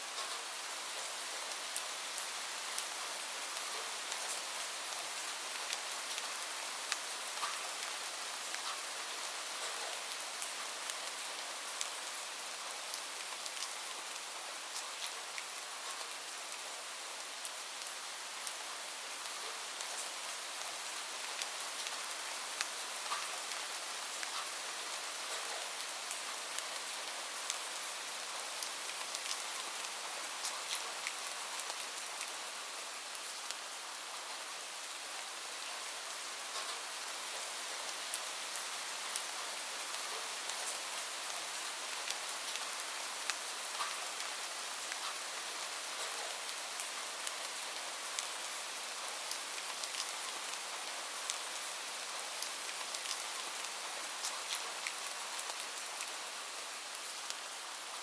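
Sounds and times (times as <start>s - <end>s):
steady rain falling: 0.0s - 58.0s
raindrops pattering on a surface: 0.1s - 58.0s.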